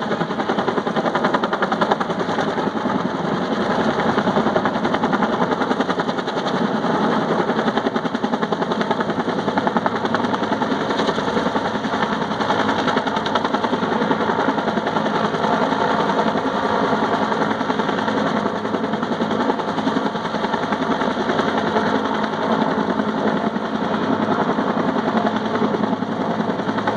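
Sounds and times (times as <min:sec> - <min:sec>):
helicopter rotor chopping: 0:00.0 - 0:26.9.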